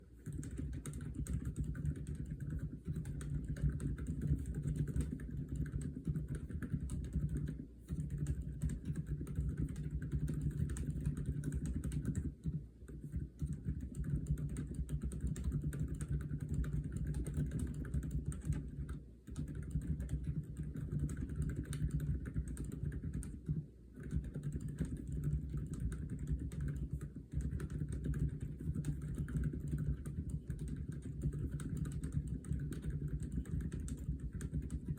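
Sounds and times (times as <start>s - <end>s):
fast typing on mechanical keyboard: 0.2s - 34.9s.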